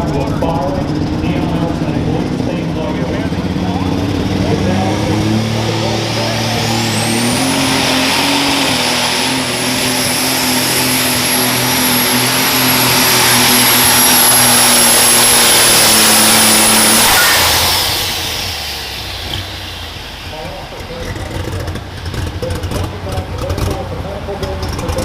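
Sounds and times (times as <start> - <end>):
high steady whine: 0.0 - 22.2
pulling tractor engine at full power: 0.0 - 25.0.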